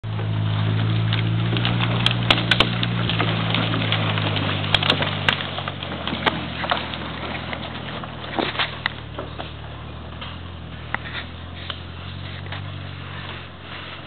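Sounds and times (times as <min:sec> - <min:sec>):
truck engine running under load: 0:00.0 - 0:14.0
twigs and branches snapping: 0:00.2 - 0:13.3.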